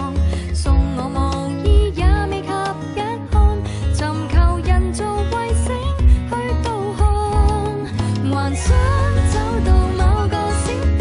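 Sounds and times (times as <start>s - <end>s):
woman singing pop ballad: 0.0s - 11.0s.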